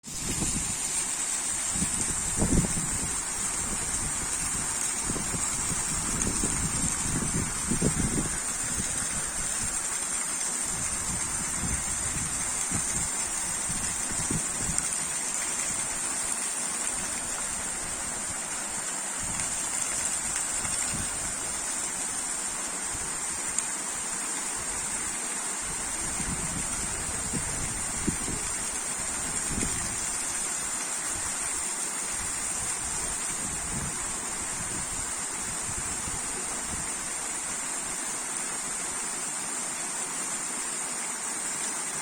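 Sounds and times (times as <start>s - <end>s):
waterfall splashing: 0.0s - 42.0s.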